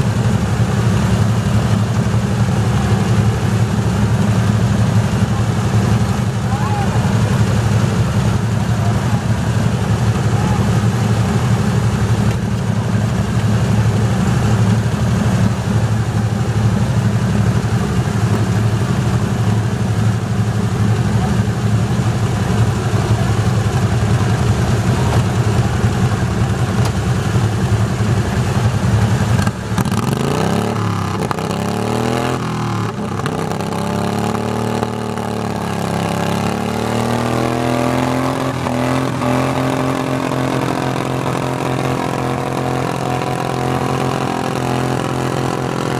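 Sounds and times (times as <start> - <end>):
tractor engine running and revving: 0.0 - 45.9.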